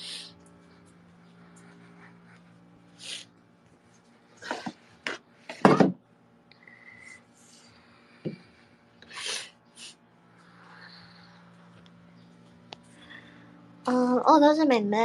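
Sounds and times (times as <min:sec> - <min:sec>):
air conditioner hum: 0:00.0 - 0:15.0.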